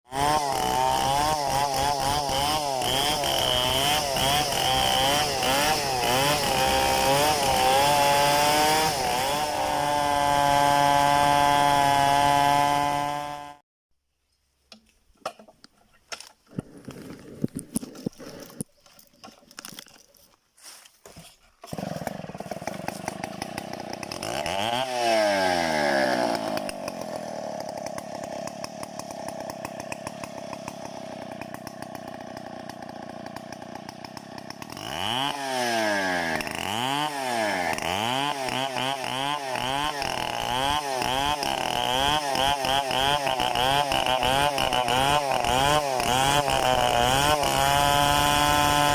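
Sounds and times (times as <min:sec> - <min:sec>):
chainsaw engine revving: 0:00.1 - 0:13.6, 0:21.6 - 0:48.9.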